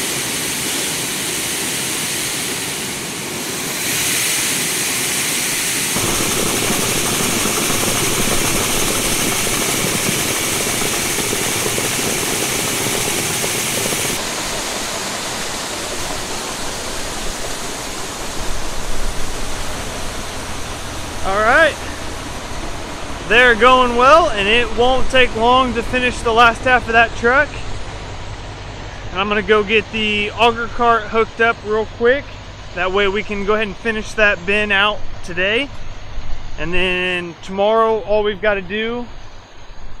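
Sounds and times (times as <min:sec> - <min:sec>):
grain machinery rushing hiss: 0:00.0 - 0:40.0
low machinery hum: 0:06.0 - 0:40.0.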